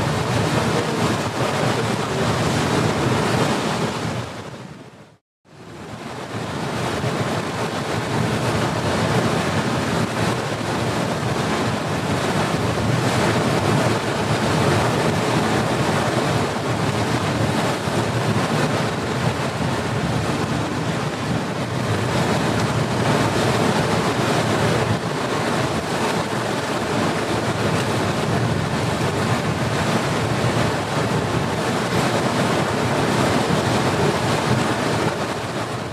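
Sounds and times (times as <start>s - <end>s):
sea water washing: 0.0s - 4.8s, 5.5s - 35.9s
wind on microphone: 0.0s - 35.9s.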